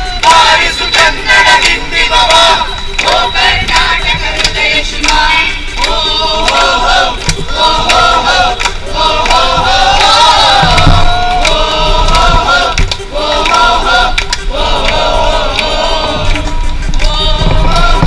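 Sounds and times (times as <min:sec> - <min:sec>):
chorus singing a song: 0:00.0 - 0:18.0.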